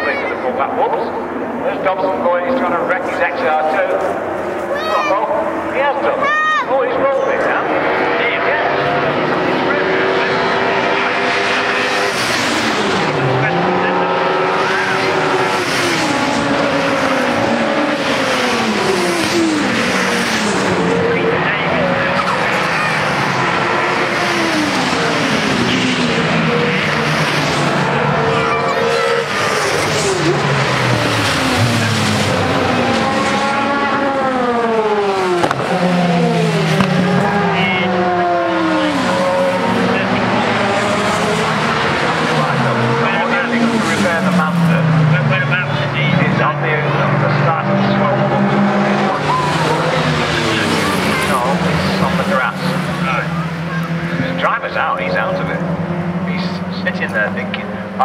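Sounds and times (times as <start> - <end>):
racing car engines: 0.0 - 58.0
car engine passing by: 7.1 - 58.0.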